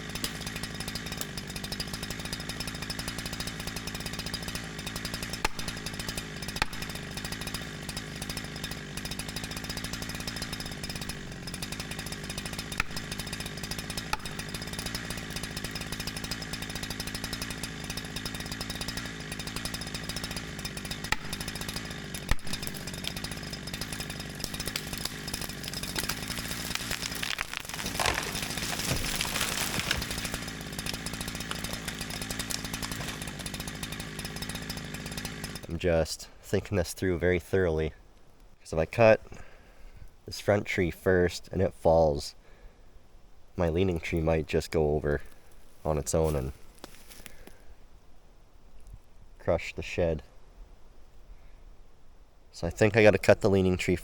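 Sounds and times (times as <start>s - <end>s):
chainsaw running: 0.0s - 38.0s, 38.8s - 40.3s, 43.6s - 47.8s.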